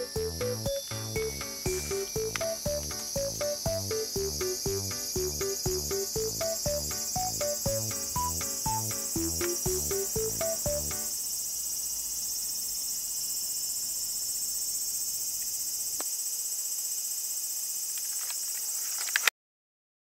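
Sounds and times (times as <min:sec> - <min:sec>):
insects chirring: 0:00.0 - 0:19.3.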